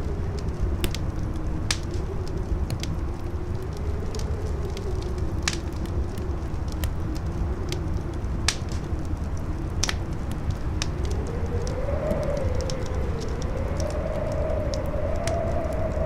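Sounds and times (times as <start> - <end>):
deep rumble: 0.0 - 16.0
fire crackling: 0.0 - 16.0
howling wind: 0.0 - 16.0.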